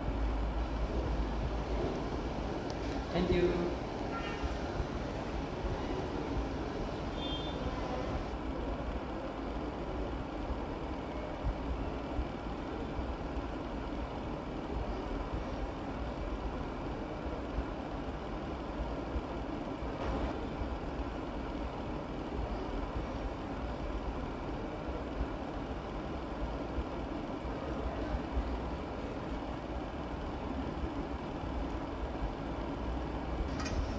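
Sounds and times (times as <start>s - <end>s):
kitchen rumble and hiss: 0.0s - 33.9s.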